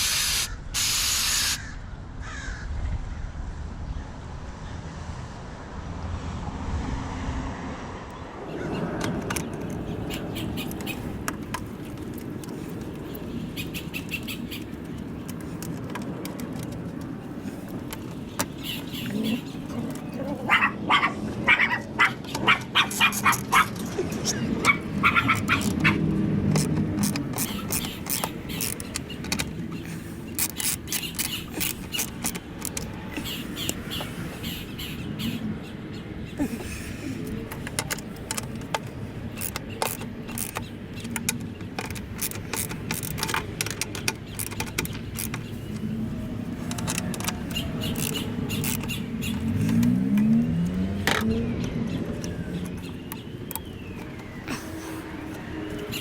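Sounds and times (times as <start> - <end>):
birds chirping: 8.1 - 56.0.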